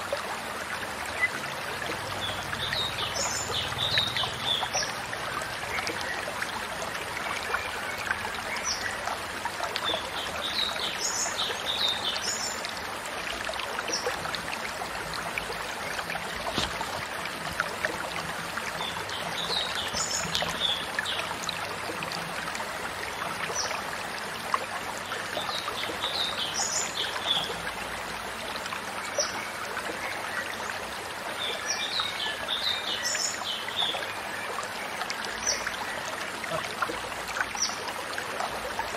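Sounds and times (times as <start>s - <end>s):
stream water running: 0.0s - 38.9s.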